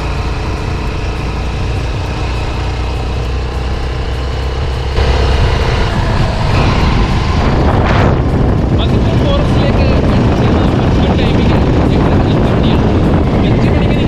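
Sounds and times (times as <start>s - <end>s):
motorcycle engine rumble: 0.0s - 14.0s
road noise: 0.0s - 14.0s.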